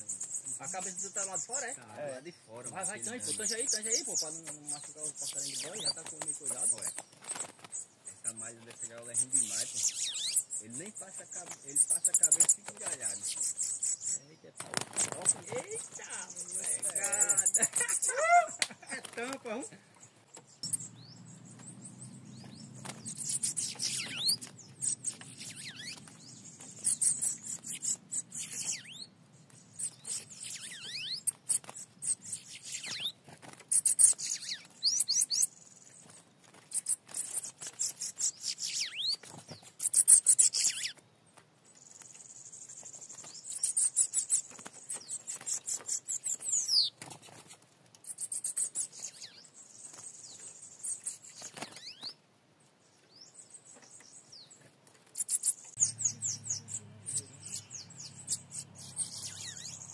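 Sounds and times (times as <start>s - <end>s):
songbird trilling: 0.0s - 36.0s, 36.7s - 41.0s, 41.8s - 47.0s, 48.0s - 52.2s, 55.2s - 59.9s.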